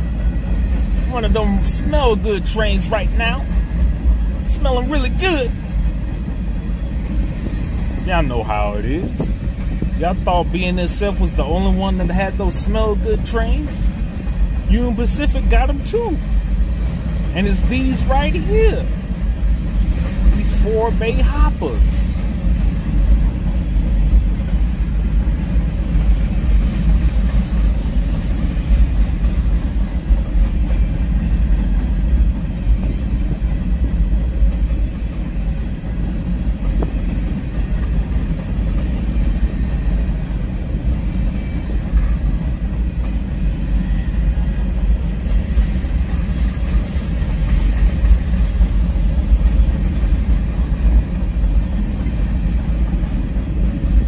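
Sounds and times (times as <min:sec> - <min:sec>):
freight train rumbling by: 0:00.0 - 0:54.0.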